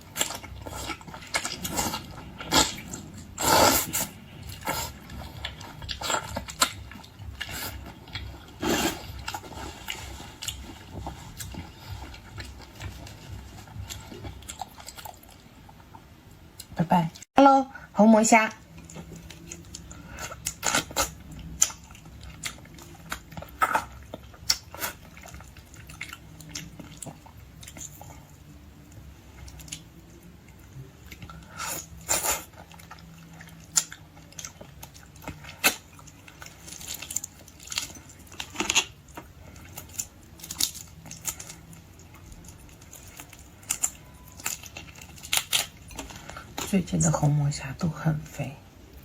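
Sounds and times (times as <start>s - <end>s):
person chewing shrimp: 0.0s - 16.7s, 18.7s - 46.7s
faint low hum: 0.0s - 49.0s.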